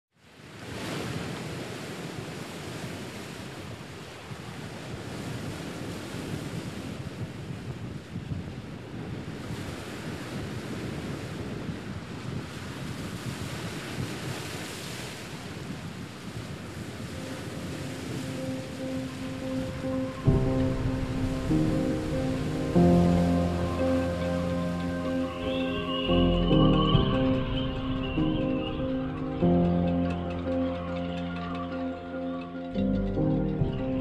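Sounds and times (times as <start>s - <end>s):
wind: 0.1s - 34.0s
sea waves: 0.2s - 34.0s.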